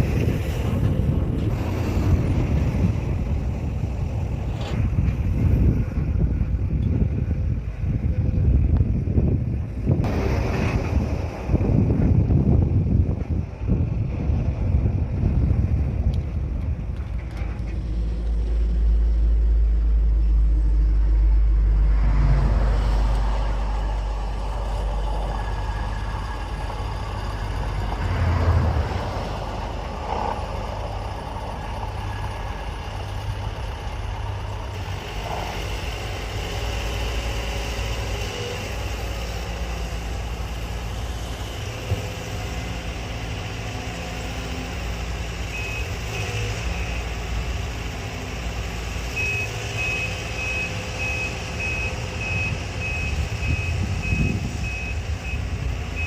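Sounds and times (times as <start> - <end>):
heavy machinery engine rumbling: 0.0 - 56.0.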